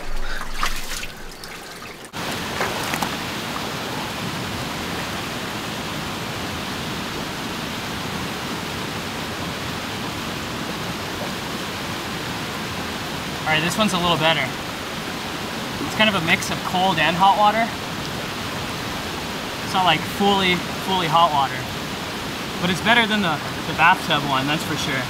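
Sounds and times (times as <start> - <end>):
water trickling and splashing: 0.0 - 25.0
river rushing: 0.6 - 25.0.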